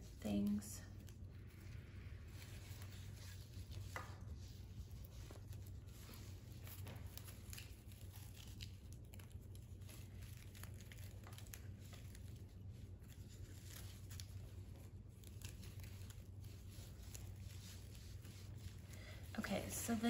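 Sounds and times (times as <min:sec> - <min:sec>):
steady low hum: 0:00.0 - 0:20.0
greenery rustling and crinkling: 0:00.4 - 0:20.0.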